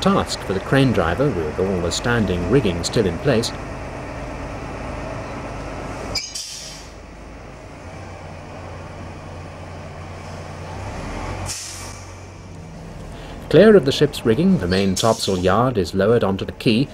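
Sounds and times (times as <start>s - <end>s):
diesel crane engine humming: 0.0s - 16.9s.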